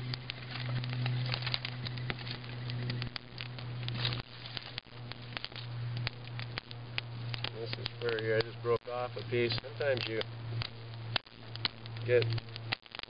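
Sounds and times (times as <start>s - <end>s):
kindling fire crackling and popping: 0.0s - 13.0s
steady low hum: 0.0s - 13.0s.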